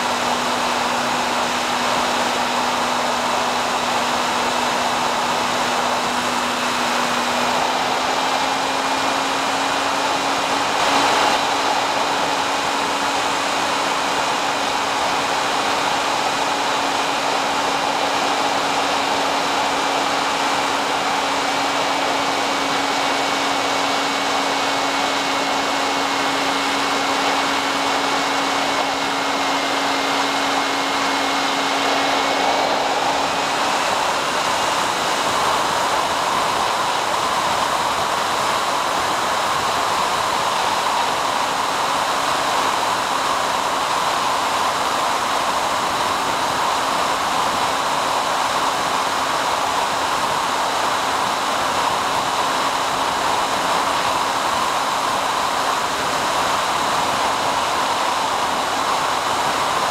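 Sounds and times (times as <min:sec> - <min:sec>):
electric motor and propeller whir: 0:00.0 - 0:59.9
faint high whine: 0:00.0 - 0:59.9
rushing air: 0:00.0 - 0:59.9.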